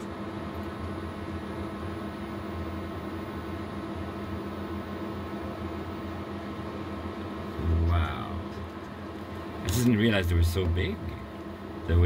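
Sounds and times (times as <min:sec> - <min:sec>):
machinery hum with hiss: 0:00.0 - 0:12.0.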